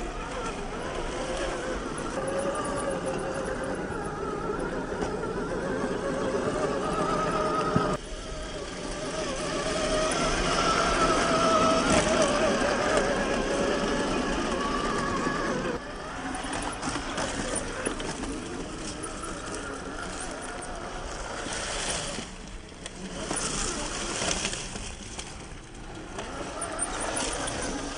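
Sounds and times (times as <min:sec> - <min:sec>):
electric motor whining: 0:00.0 - 0:27.9.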